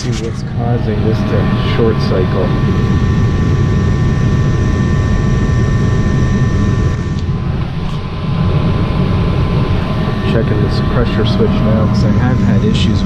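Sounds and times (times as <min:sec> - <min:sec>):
gas furnace whirring: 0:00.0 - 0:13.0.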